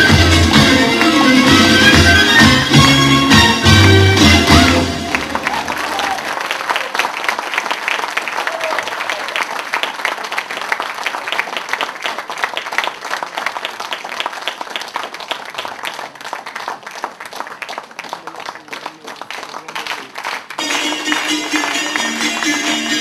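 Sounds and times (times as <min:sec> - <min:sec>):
audience applauding: 0:03.8 - 0:23.0.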